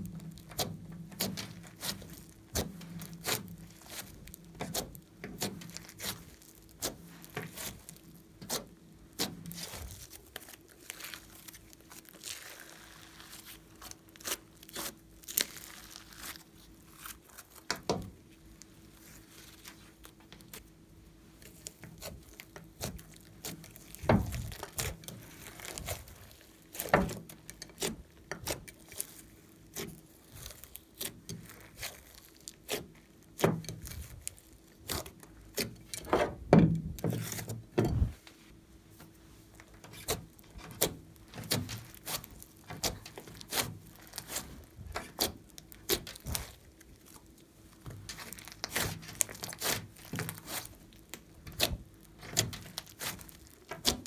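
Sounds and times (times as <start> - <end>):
hands kneading slime: 0.0 - 54.0.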